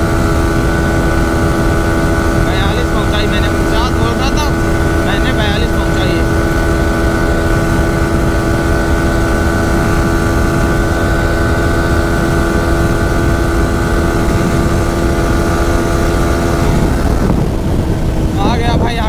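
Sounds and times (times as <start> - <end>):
heavy wind rumble: 0.0 - 19.0
motorcycle engine at high revs: 0.0 - 19.0.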